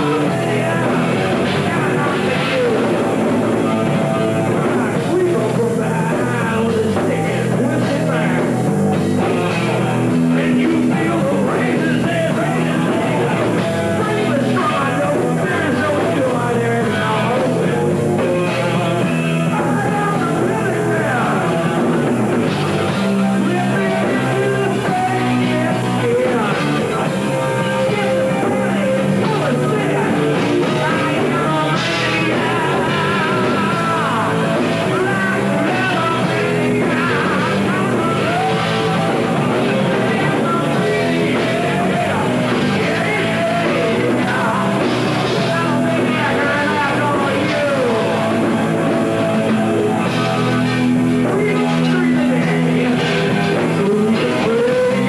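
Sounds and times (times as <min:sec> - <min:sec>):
bass guitar: 0:00.0 - 0:55.0
drums: 0:00.0 - 0:55.0
electric guitar: 0:00.0 - 0:55.0
male singer: 0:00.0 - 0:55.0.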